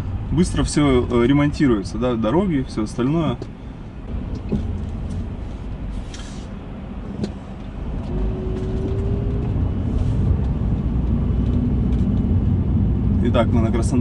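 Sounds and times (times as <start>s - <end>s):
car engine and tyre noise: 0.0s - 14.0s
faint whine: 0.0s - 14.0s.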